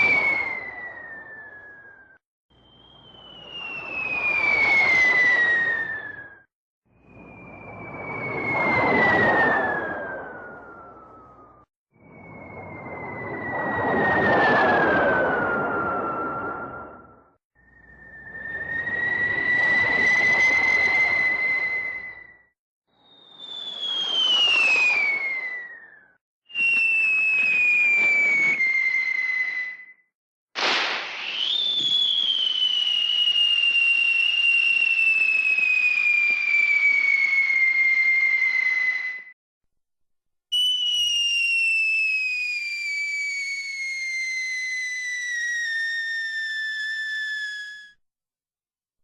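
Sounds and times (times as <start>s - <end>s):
cartoon falling whistle: 0.0s - 6.5s, 7.1s - 39.4s, 40.5s - 48.0s.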